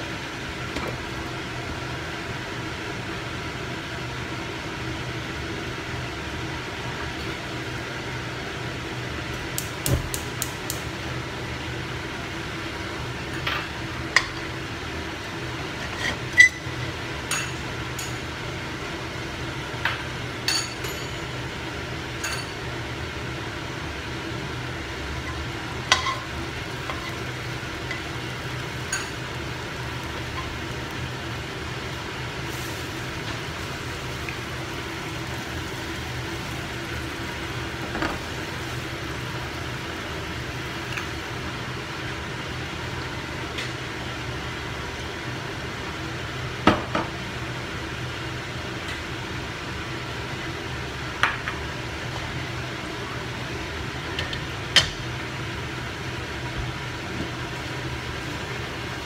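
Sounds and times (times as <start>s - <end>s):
oil sizzling in a wok: 0.0s - 59.0s.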